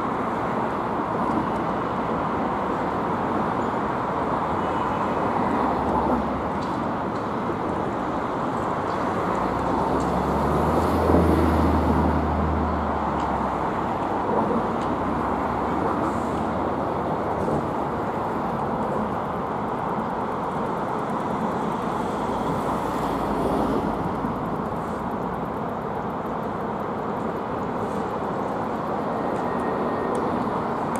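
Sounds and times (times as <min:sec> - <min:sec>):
road traffic noise: 0:00.0 - 0:30.9.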